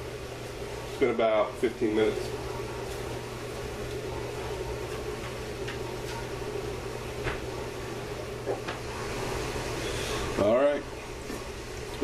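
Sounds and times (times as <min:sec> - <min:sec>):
pot steaming on stove: 0:00.0 - 0:12.0.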